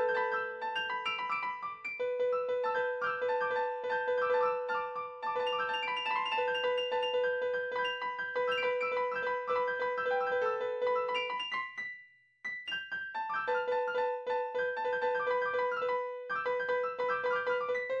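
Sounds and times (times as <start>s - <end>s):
piano repeated notes: 0.0s - 18.0s.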